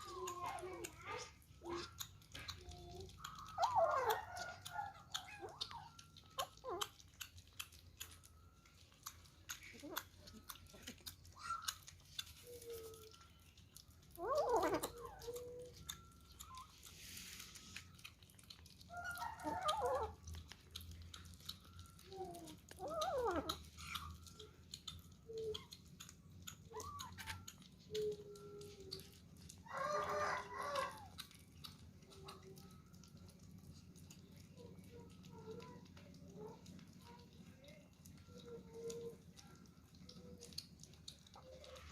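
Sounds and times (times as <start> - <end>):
kittens chewing and lapping: 0.0 - 41.9.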